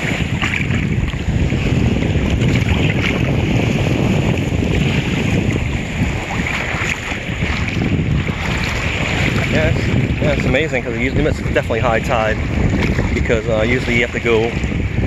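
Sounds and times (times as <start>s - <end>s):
water sloshing and splashing: 0.0s - 15.0s
wind buffeting microphone: 0.0s - 15.0s.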